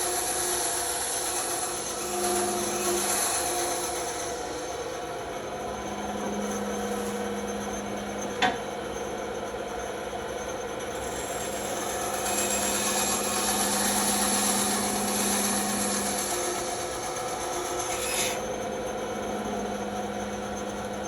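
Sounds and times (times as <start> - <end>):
bandsaw motor hum: 0.0 - 21.0.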